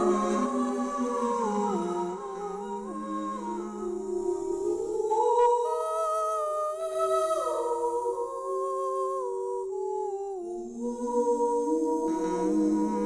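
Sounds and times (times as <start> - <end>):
sustained humming tones: 0.0 - 13.0.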